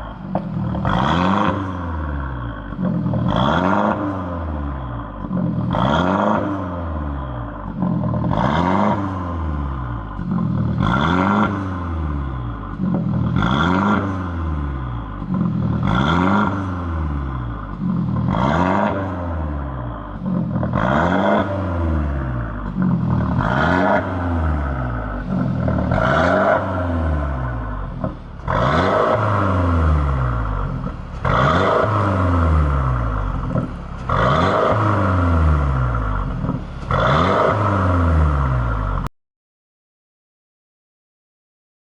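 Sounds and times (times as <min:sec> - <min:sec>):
car engine revving: 0:00.0 - 0:39.1.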